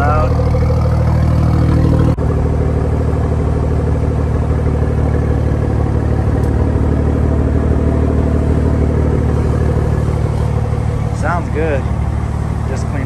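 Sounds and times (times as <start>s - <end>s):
loud car engine idling: 0.0s - 13.0s.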